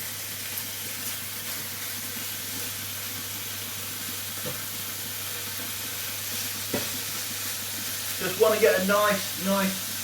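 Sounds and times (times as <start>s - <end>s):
meat sizzling in frying pan: 0.0s - 10.0s.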